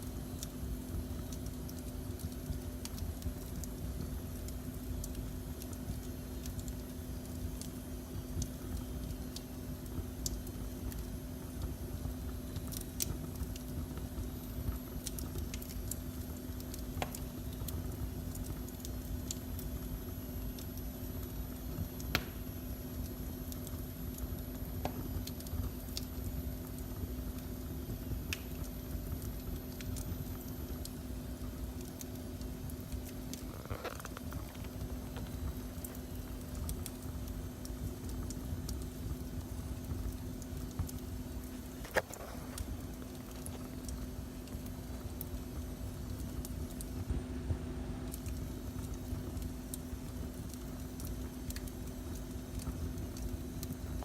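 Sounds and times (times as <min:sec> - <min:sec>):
faint hum: 0:00.0 - 0:54.0
wood fire crackling: 0:00.0 - 0:54.0.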